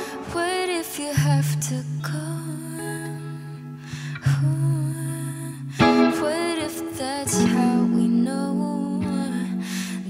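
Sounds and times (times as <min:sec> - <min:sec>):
gentle instrumental accompaniment: 0:00.0 - 0:10.0
woman singing: 0:00.0 - 0:10.0.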